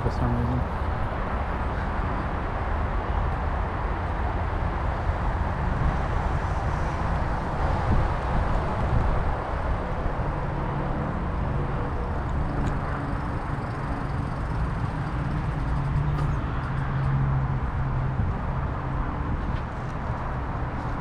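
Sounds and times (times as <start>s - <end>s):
road noise: 0.0s - 21.0s
wind rushing over microphone: 0.0s - 21.0s.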